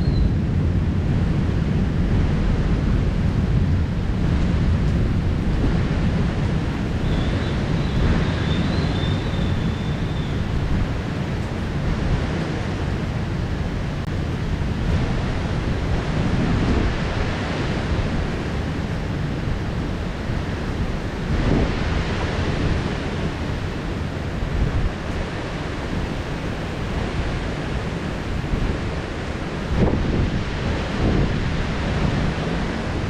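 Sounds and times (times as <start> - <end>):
deep thunder rumble: 0.0 - 33.0
heavy rain pouring: 0.3 - 33.0.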